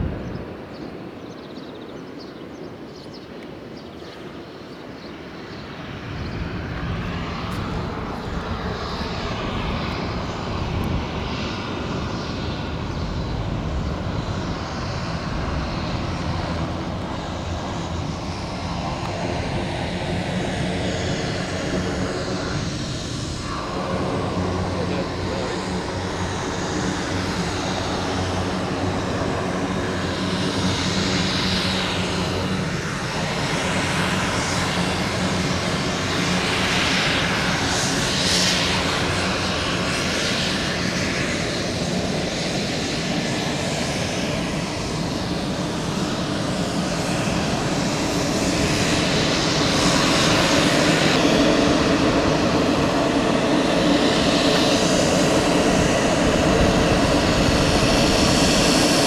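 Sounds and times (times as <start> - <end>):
turboprop engine running: 5.9 - 59.0.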